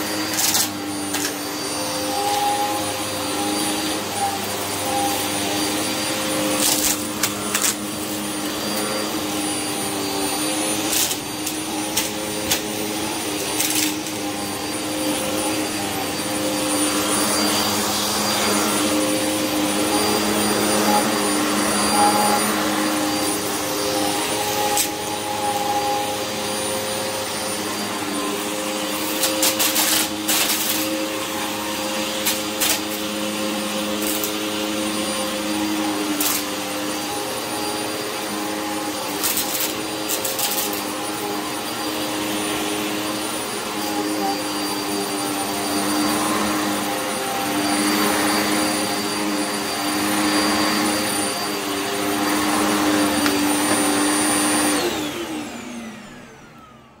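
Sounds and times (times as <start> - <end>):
vacuum cleaner running: 0.0 - 57.0
vacuum motor winding down: 0.0 - 57.0.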